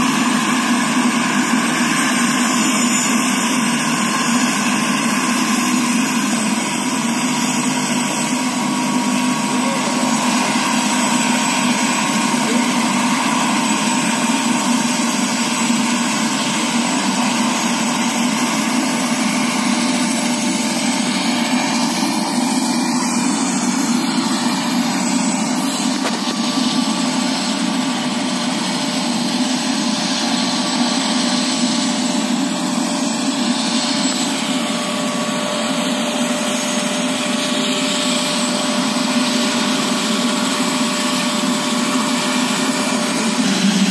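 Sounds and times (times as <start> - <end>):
helicopter turbine engine whine: 0.0 - 43.9.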